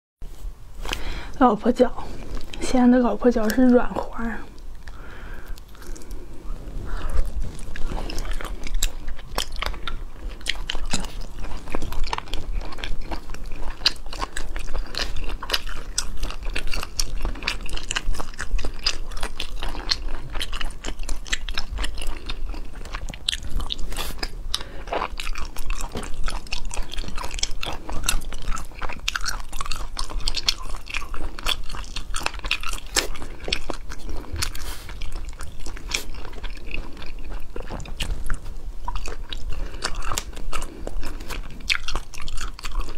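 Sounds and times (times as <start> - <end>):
mouth chewing clicks and smacks: 6.9 - 42.9.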